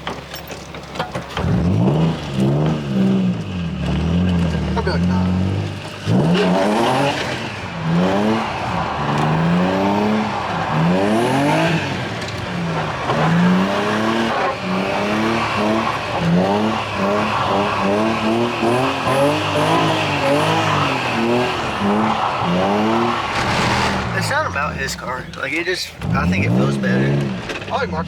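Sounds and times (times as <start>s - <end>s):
car engine revving: 0.9s - 28.0s.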